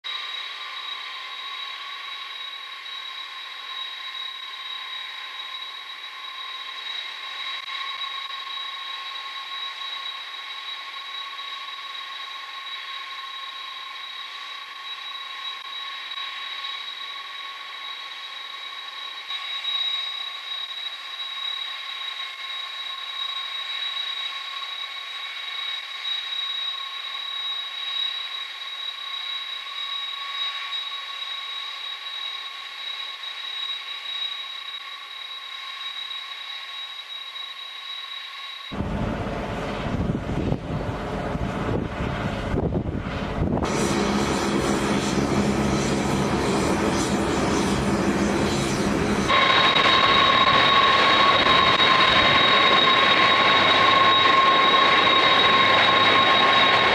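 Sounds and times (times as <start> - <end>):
jet engines idling whine: 0.0 - 56.9.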